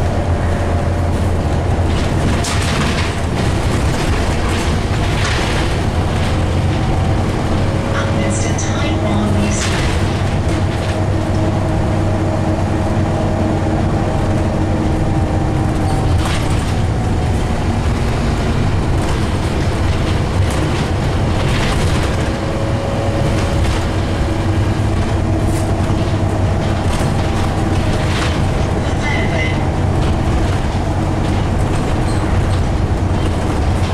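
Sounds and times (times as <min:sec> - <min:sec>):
bus diesel engine humming: 0:00.0 - 0:33.9
road and tyre noise: 0:00.0 - 0:33.9.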